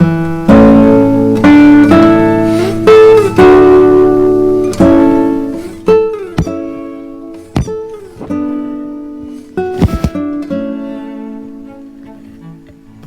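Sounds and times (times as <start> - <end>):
plucked string instrument strumming: 0.0 - 13.0.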